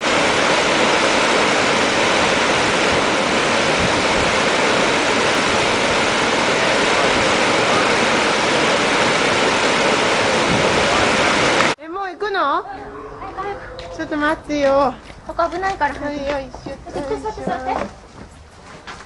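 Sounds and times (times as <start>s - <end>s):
loud steady rushing noise: 0.0s - 11.8s, 12.6s - 17.4s.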